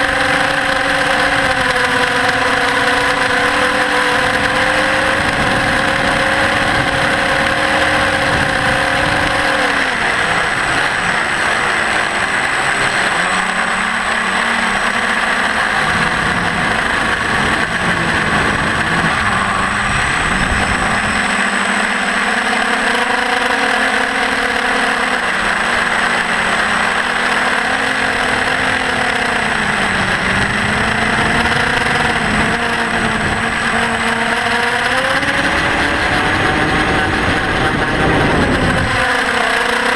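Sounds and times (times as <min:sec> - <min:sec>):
drone motor and propeller hum: 0:00.0 - 0:39.9.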